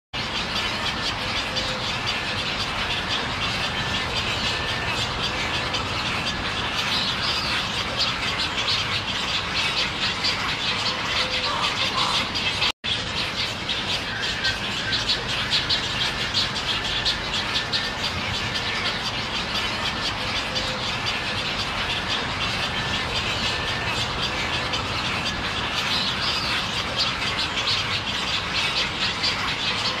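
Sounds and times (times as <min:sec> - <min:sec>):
chorus of birds calling: 0:00.2 - 0:30.0.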